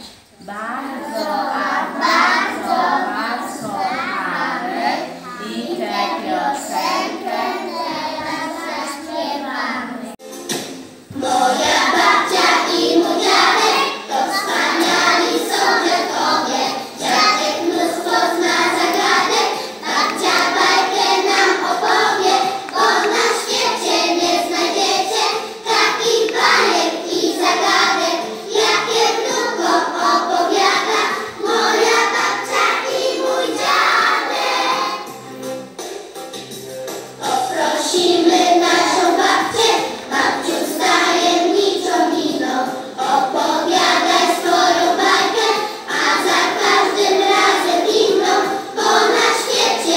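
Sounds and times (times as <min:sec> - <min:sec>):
children singing in chorus: 0:00.5 - 0:10.2, 0:11.1 - 0:35.2, 0:37.2 - 0:49.9.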